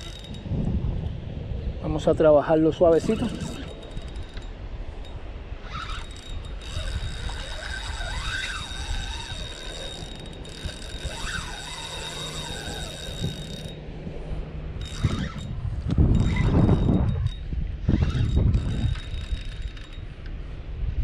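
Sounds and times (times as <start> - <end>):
fishing reel whirring and clicking: 0.0 - 0.5, 2.9 - 13.8, 14.8 - 20.4.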